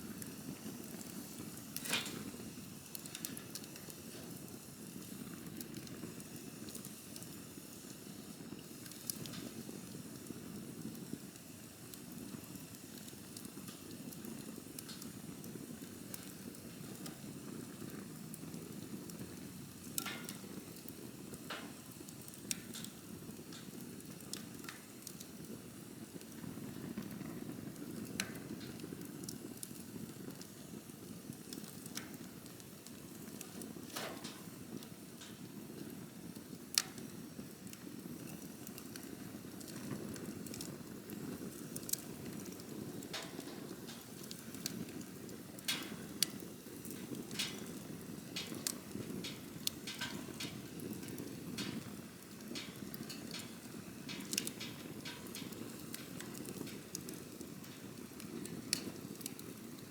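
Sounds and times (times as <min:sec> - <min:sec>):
fire crackles and pops: 0:00.0 - 0:59.9
low rush of flames: 0:00.0 - 0:59.9.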